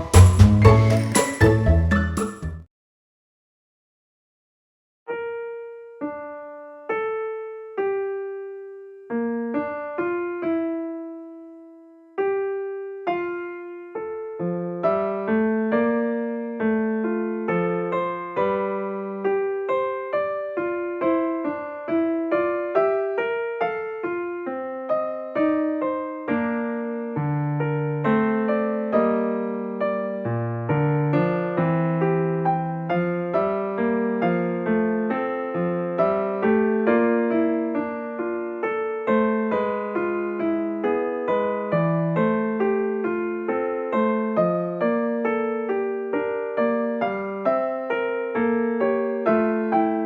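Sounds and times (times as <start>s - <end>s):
slow electric piano melody: 5.1s - 50.0s.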